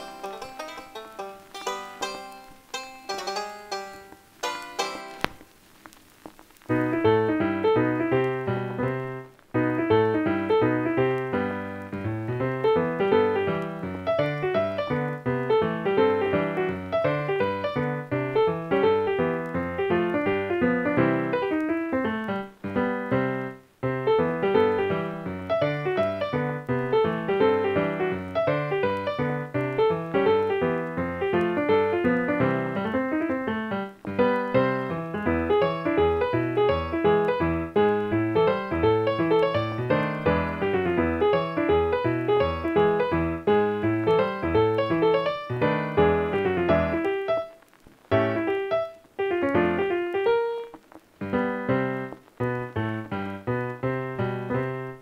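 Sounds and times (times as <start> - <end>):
piano music with quick runs: 0.0 - 5.3, 6.7 - 55.0.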